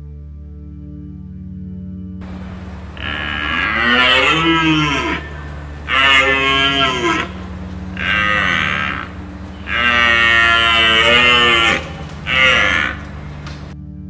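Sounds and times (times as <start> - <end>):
large animal calling: 2.2 - 13.8.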